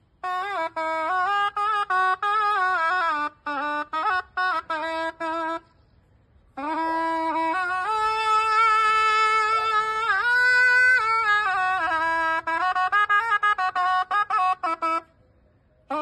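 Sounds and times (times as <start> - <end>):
reed pipe melody: 0.0 - 16.0.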